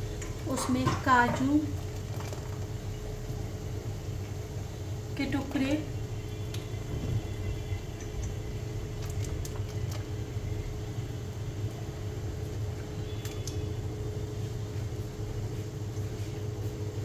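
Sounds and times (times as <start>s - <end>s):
faint steady hum: 0.0s - 17.0s
low kitchen rumble: 0.0s - 17.0s.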